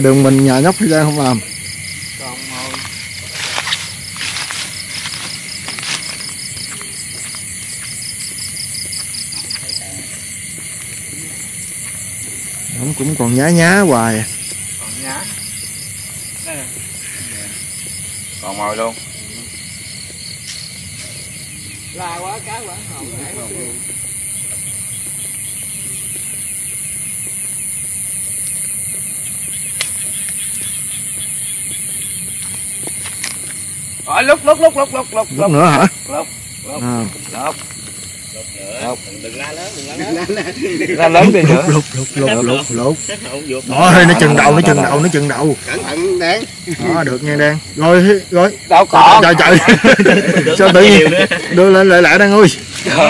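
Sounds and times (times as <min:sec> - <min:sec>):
crickets and insects trilling: 0:00.0 - 0:53.0.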